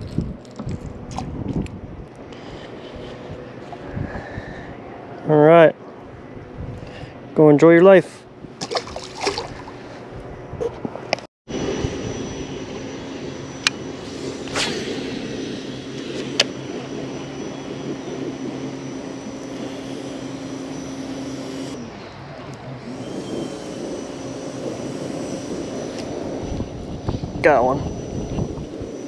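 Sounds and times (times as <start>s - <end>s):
distant engine drone: 0.0s - 29.0s.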